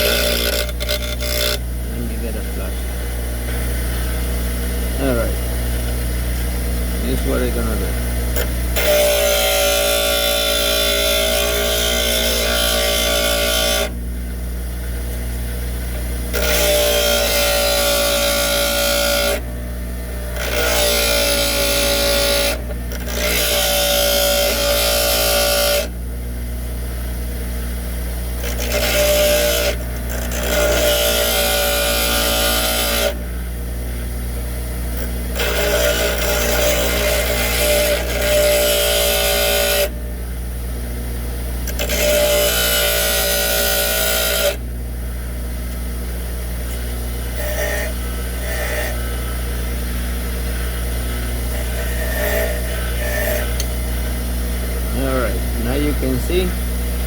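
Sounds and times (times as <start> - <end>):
drill bit grinding on wheel: 0.0 - 14.0, 15.9 - 26.0, 28.0 - 33.4, 35.0 - 40.0, 41.6 - 44.7, 45.8 - 57.0
bench grinder running: 0.0 - 57.0.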